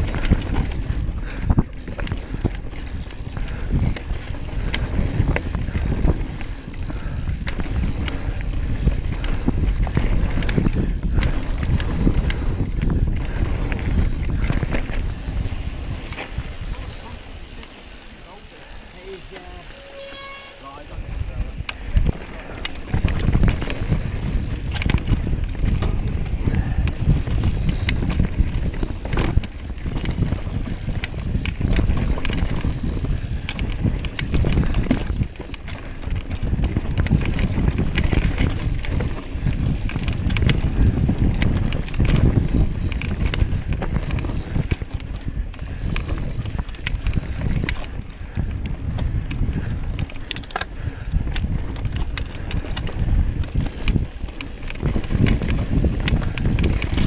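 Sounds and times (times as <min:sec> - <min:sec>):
bike rattling clicks and knocks: 0:00.0 - 0:57.0
bike tyres rumbling on dirt: 0:00.0 - 0:57.0
wind on microphone: 0:00.0 - 0:57.0.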